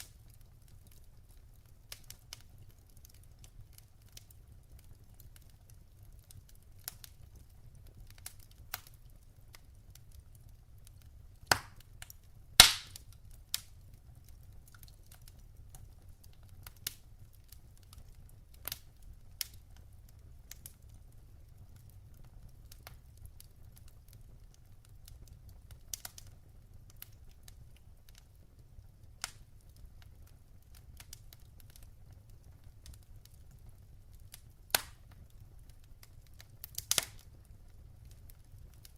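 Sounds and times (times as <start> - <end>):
loud pops from burning logs: 0.0 - 38.9
wood fire crackling: 0.0 - 38.9.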